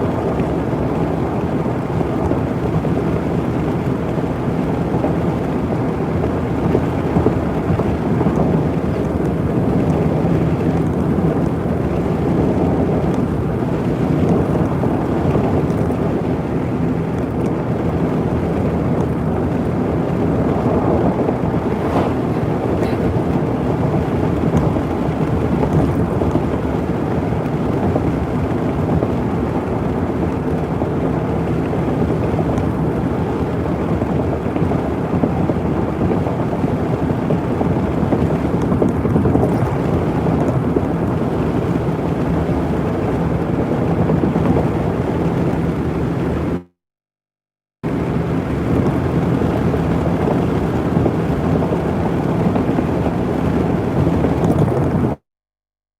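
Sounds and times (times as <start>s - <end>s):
wind against microphone: 0.0s - 46.7s, 47.9s - 55.2s
vehicle engine and road drone: 0.0s - 46.8s.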